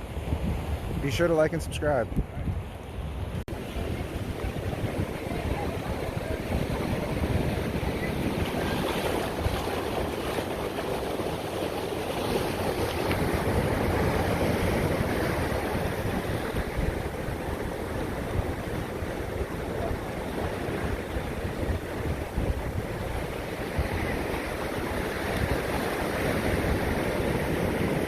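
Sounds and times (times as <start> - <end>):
surf on rocky beach: 0.0 - 28.0
wind buffeting microphone: 0.0 - 28.0.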